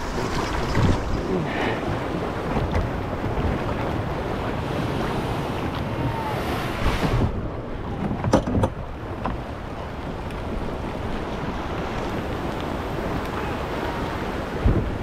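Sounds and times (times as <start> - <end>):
surf washing around kayak: 0.0 - 15.0
wind buffeting microphone: 0.0 - 15.0.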